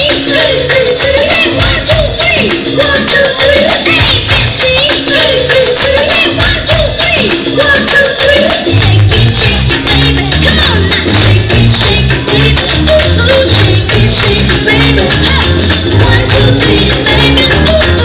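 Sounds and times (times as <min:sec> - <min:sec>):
loud pop music: 0:00.0 - 0:18.0
shaker percussion: 0:00.0 - 0:18.0.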